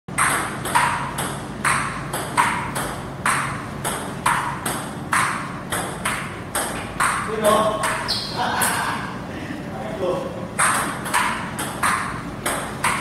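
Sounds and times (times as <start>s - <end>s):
table tennis ball pings: 0.1s - 8.3s, 10.6s - 13.0s
low steady hum: 0.1s - 13.0s.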